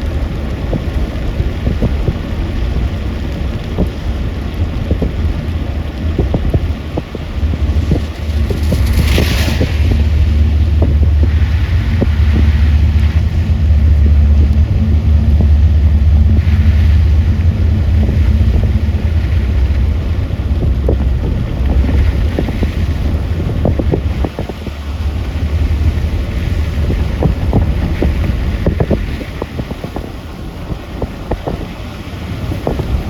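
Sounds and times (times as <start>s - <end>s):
raindrop ticks: 0.0s - 33.0s
vehicle low rumble: 0.0s - 33.0s
wind buffeting microphone: 0.0s - 33.0s.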